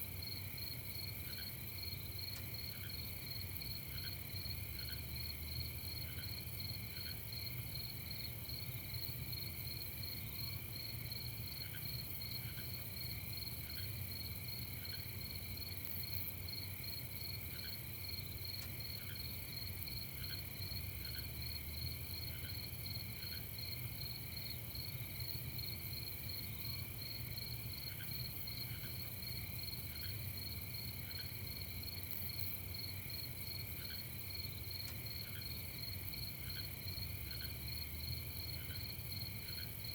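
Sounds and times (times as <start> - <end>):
crickets trilling: 0.2 - 39.9.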